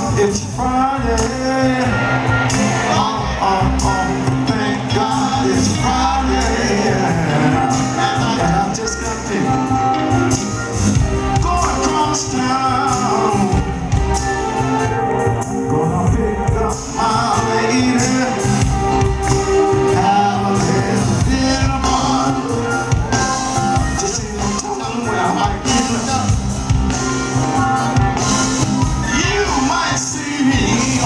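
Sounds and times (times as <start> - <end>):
man singing lead vocal: 0.0 - 9.9, 11.3 - 14.1, 15.2 - 26.9, 28.9 - 31.0
live band playing: 0.0 - 31.0.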